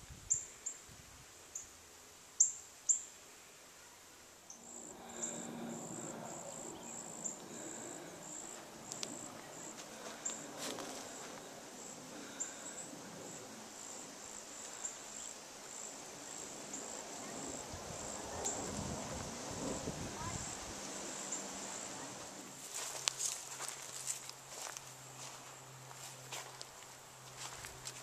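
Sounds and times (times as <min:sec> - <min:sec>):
faint background noise: 0:00.0 - 0:28.0
insect chirping: 0:00.2 - 0:28.0.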